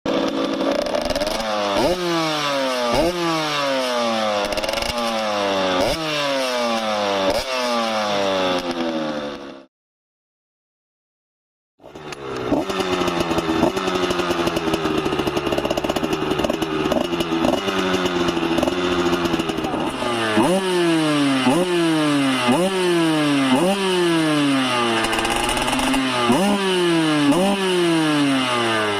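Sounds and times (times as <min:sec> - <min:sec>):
two-stroke motorbike engine revving: 0:00.1 - 0:09.7, 0:11.8 - 0:28.9.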